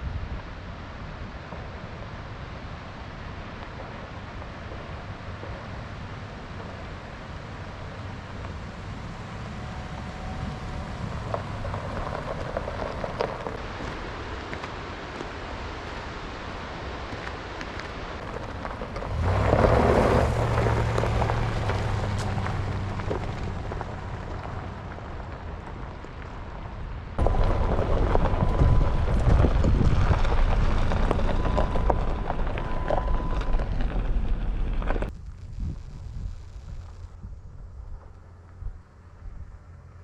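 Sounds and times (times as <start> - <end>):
moving vehicle rumbling: 0.0 - 40.0
low rumble: 3.3 - 14.7, 18.1 - 40.0
wind buffeting microphone: 3.8 - 39.7.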